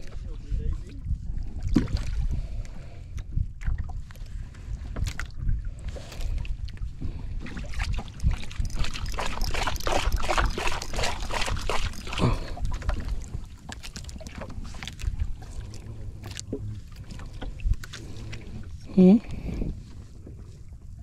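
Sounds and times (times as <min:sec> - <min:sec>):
water splashing against boat hull: 0:00.0 - 0:02.6, 0:03.6 - 0:21.0
wind buffeting microphone: 0:00.0 - 0:21.0.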